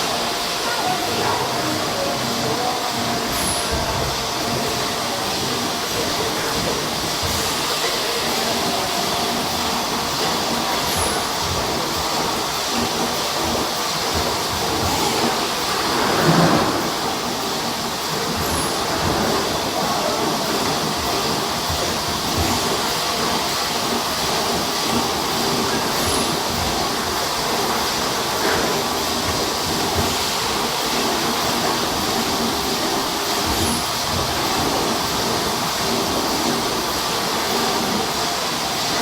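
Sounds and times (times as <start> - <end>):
bottle filling machinery clatter: 0.0 - 39.0.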